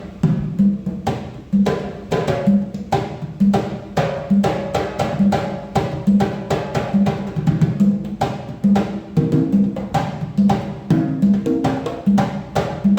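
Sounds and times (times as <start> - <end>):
drums in steady rhythm: 0.0 - 12.9.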